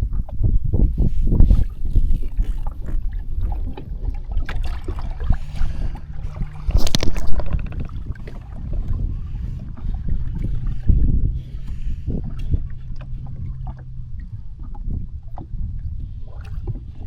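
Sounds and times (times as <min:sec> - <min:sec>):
low steady hum: 0:00.0 - 0:17.0
wind buffeting microphone: 0:00.0 - 0:17.0
water sloshing: 0:00.2 - 0:17.0.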